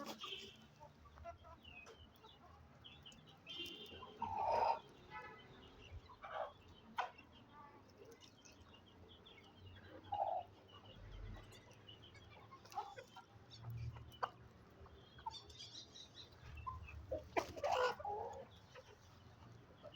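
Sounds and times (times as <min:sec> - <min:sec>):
chickens clucking and calling: 0:00.0 - 0:19.9.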